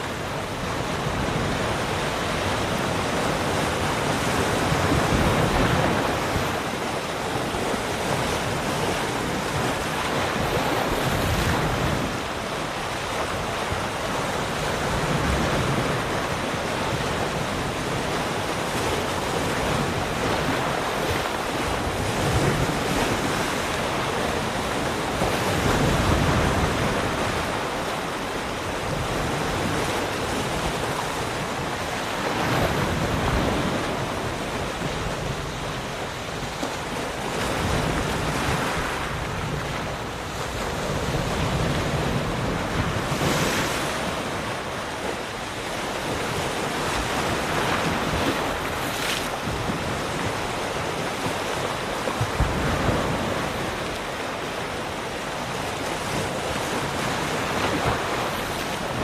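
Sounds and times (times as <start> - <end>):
ocean waves breaking: 0.0 - 59.0
wind noise on microphone: 0.0 - 59.0.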